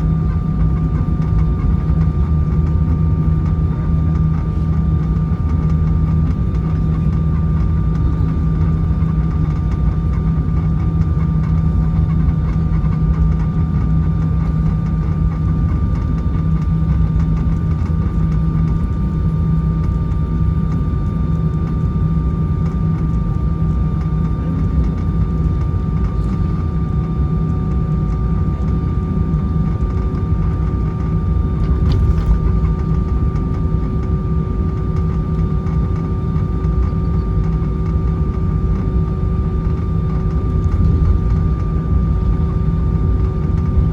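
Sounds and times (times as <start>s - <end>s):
aircraft engines idling: 0.0s - 43.9s
low cabin rumble: 0.0s - 43.9s.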